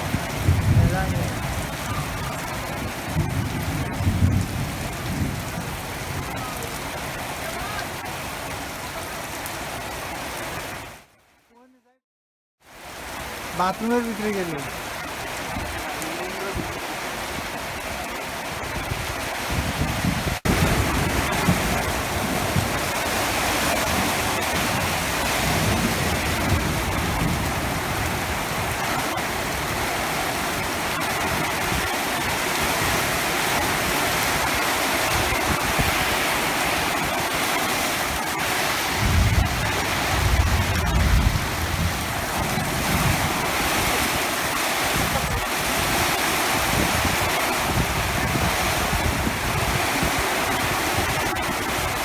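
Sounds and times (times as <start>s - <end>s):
heavy rain pouring: 0.0s - 11.2s, 12.6s - 52.0s.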